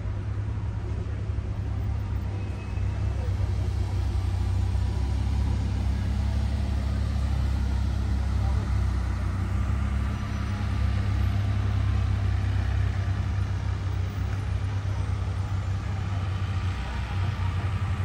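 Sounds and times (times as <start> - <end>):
traffic engines rumbling: 0.0 - 18.0.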